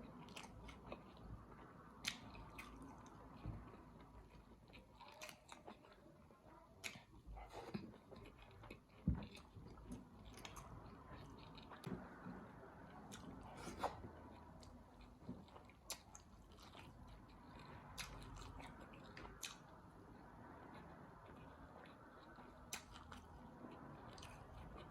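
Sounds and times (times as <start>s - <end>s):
chewing and biting food: 0.0s - 24.9s.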